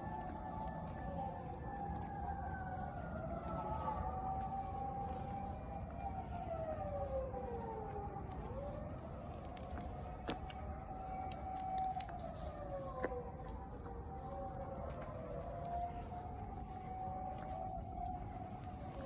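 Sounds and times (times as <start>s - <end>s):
emergency sirens wailing: 0.0s - 19.0s.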